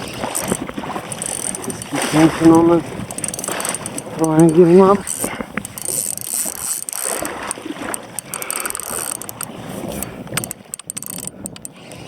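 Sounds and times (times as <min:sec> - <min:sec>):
fishing reel clicking: 0:00.0 - 0:12.0
noisy wash: 0:00.0 - 0:12.0.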